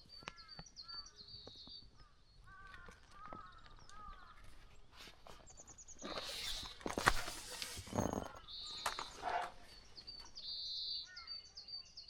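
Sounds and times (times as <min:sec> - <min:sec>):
high bird chirps and trills: 0:00.0 - 0:12.0
lower arched bird calls: 0:00.0 - 0:12.0.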